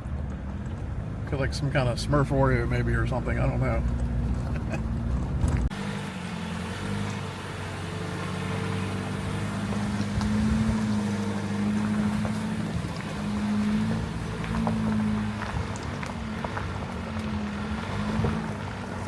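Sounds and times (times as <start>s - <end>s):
vehicle engine and drivetrain hum: 0.0s - 19.0s.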